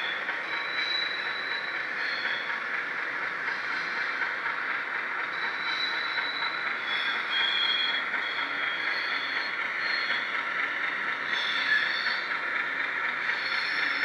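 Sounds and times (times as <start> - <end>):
model train whirring on track: 0.0 - 14.0.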